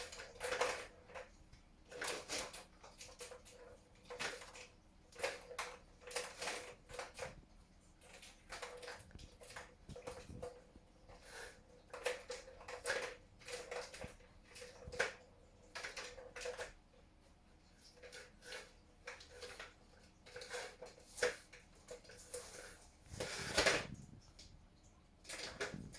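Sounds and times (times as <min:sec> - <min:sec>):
kittens tapping and scratching: 0:00.0 - 0:17.0, 0:17.6 - 0:25.9.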